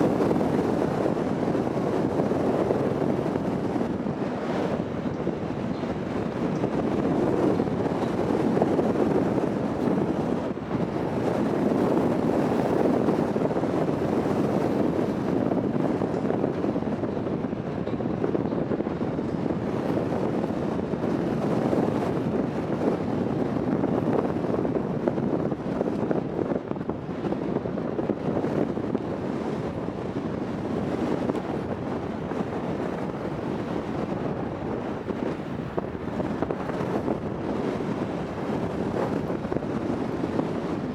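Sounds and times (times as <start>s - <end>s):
ferry engine noise: 0.0s - 40.9s
sea: 0.0s - 40.9s
wind on microphone: 0.0s - 40.9s.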